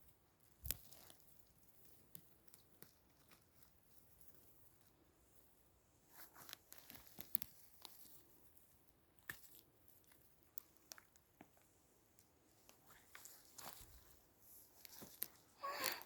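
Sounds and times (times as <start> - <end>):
twigs crackling and rustling: 0.0 - 16.0.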